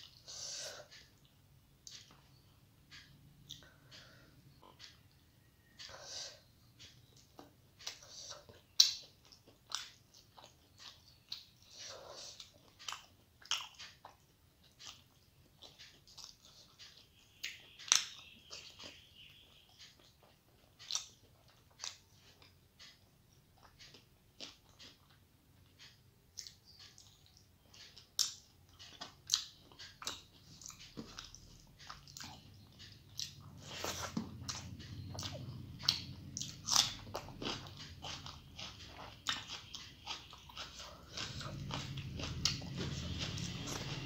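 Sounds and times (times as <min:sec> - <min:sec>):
close chewing with mouth clicks: 0:00.0 - 0:44.0.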